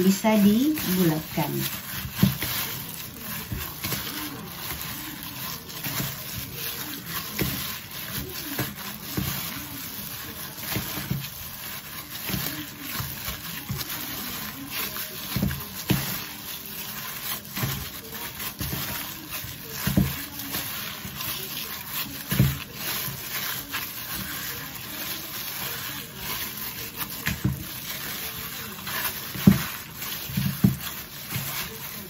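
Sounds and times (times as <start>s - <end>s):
plastic glove crinkling: 0.0s - 32.0s
sticky dough squishing: 0.0s - 32.0s.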